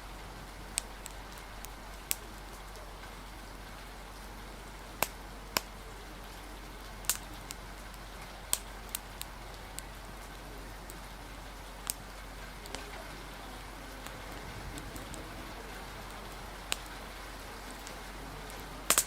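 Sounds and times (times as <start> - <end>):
rain hiss: 0.0 - 19.0
wood fire popping and crackling: 0.0 - 19.0.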